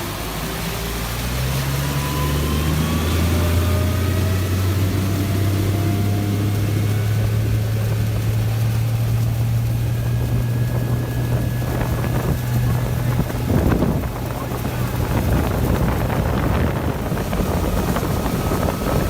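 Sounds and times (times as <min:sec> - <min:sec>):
electric motor low hum: 0:00.0 - 0:19.0
rush of wind and water: 0:00.0 - 0:19.0.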